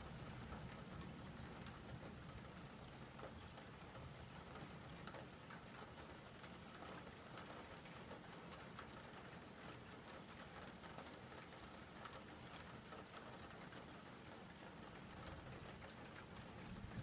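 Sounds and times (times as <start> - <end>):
faint steady rain: 0.0 - 17.0
raindrops ticking: 0.0 - 17.0.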